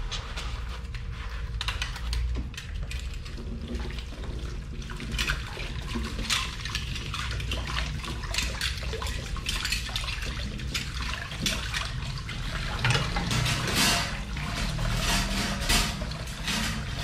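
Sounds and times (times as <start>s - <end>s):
water splashing over dishes: 0.8s - 17.0s
tap water running: 0.9s - 17.0s.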